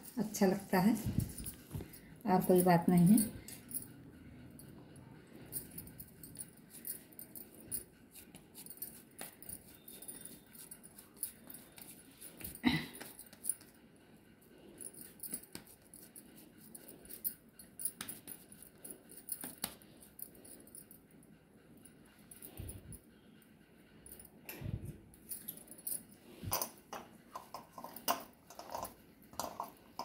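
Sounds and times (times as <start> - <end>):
glass bangles clicking and jingling: 0.1 - 13.8, 14.8 - 21.1, 24.1 - 30.0.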